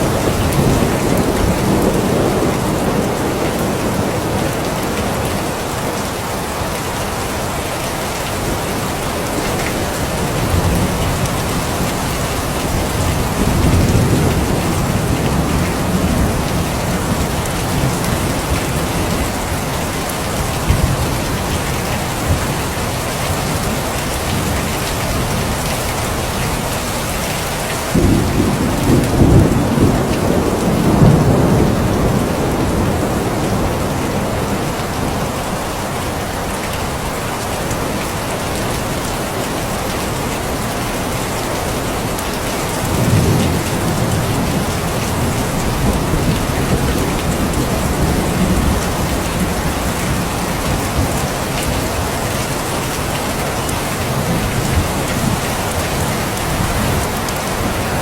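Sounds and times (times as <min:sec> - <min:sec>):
thunder rumbling: 0:00.0 - 0:06.7, 0:08.4 - 0:35.8, 0:41.6 - 0:58.0
rain falling: 0:00.0 - 0:58.0.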